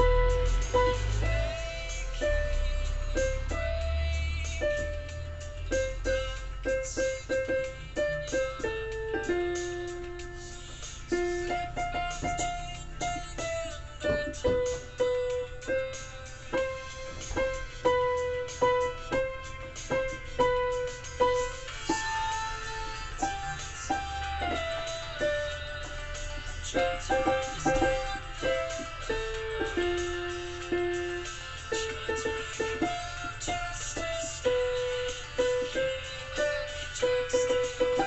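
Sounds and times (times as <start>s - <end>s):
electronic keyboard melody: 0.0s - 38.0s.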